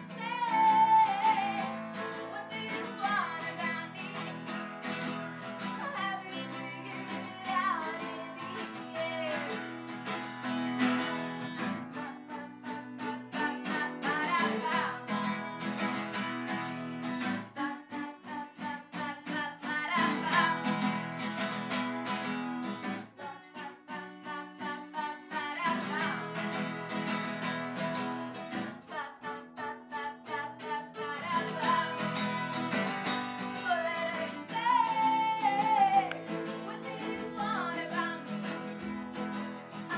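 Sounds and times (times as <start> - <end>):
acoustic guitar strummed and plucked: 0.0 - 39.9.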